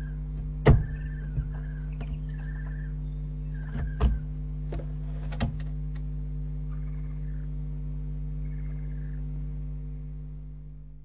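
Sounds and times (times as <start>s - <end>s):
faint buzzy owl calls: 0.0s - 5.3s, 6.4s - 10.2s
mains hum: 0.0s - 11.0s.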